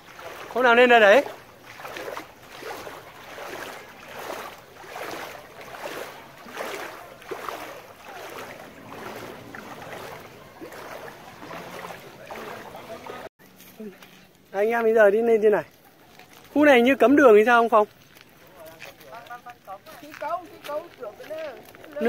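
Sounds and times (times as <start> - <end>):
wading through water: 0.0 - 22.0.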